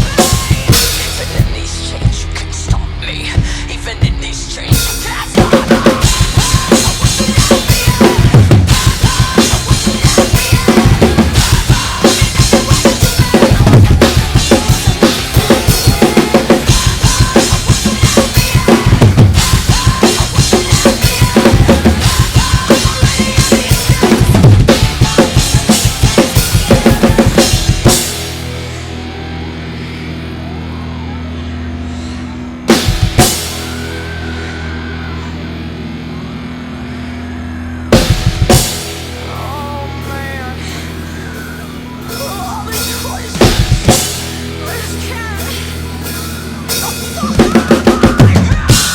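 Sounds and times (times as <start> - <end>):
drum kit played fast: 0.0 - 30.6, 32.6 - 35.8, 37.9 - 48.9
metal backing track: 0.0 - 48.9.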